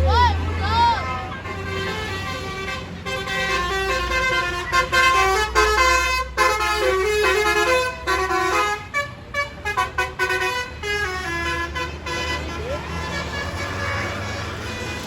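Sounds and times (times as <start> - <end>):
bus engine rumble: 0.0 - 15.0
bus horn playing melody: 0.5 - 15.0.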